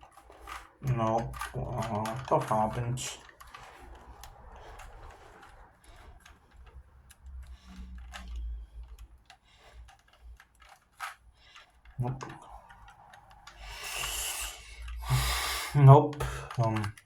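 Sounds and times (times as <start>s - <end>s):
plastic puzzle cube clicks: 0.0s - 17.0s.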